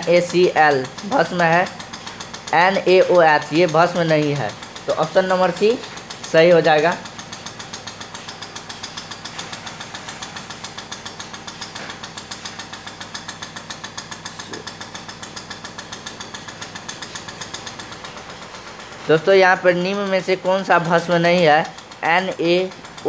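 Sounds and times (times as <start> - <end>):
small machine knocking rhythmically: 0.0 - 23.0.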